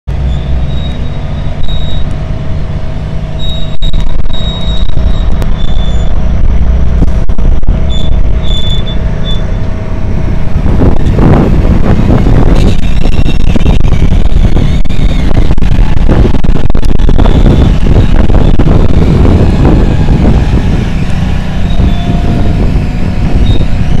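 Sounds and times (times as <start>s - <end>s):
truck diesel engine rumbling: 0.0s - 24.0s
trailer wheels rolling by: 0.1s - 24.0s.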